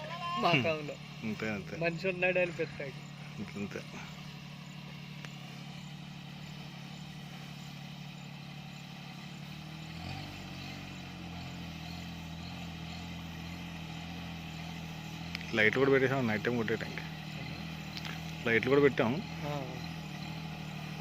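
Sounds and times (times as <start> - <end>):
deeper engine rumble: 0.0 - 21.0
tractor engine running: 0.0 - 21.0.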